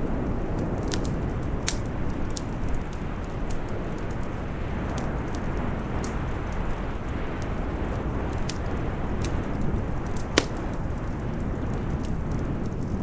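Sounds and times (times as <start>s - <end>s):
storm wind rushing: 0.0s - 13.0s
wood fire crackling and popping: 0.0s - 13.0s.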